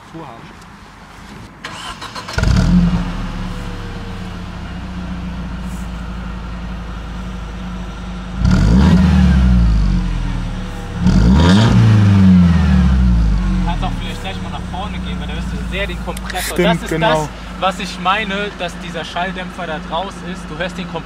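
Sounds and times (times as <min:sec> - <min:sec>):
car engine idling and revving: 0:01.1 - 0:21.0.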